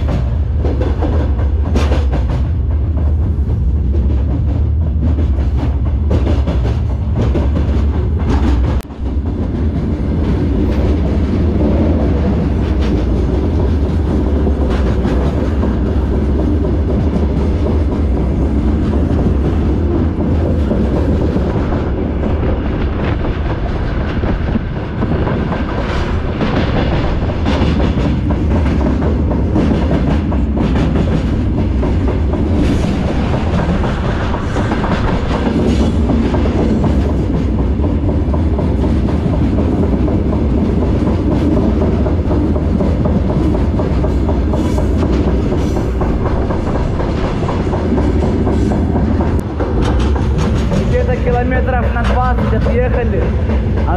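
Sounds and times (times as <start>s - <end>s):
train wagon rumbling: 0.0s - 53.9s
wheels clacking over rail joints: 0.0s - 53.9s.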